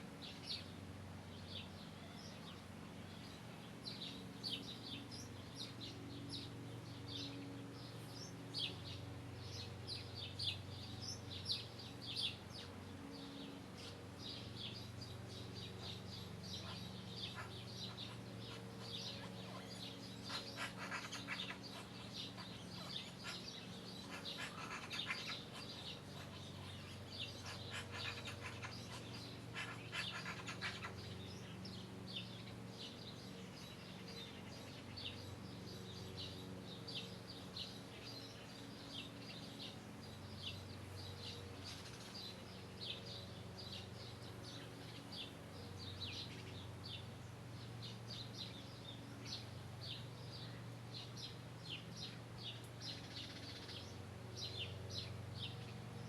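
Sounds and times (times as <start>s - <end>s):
small birds chirping: 0.0s - 56.0s
steady low hum: 0.0s - 56.0s.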